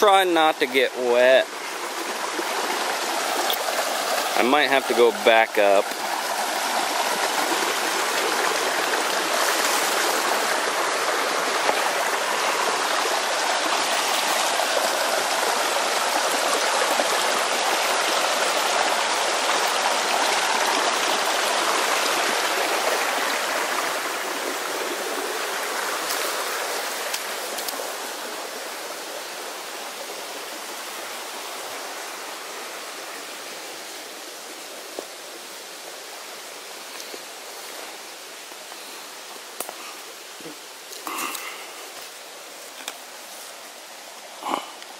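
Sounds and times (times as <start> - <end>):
stream splashing over stones: 0.0 - 44.9.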